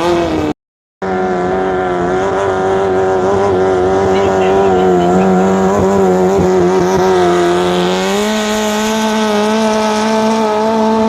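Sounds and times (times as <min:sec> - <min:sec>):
boat engine running at high revs: 0:00.0 - 0:11.0.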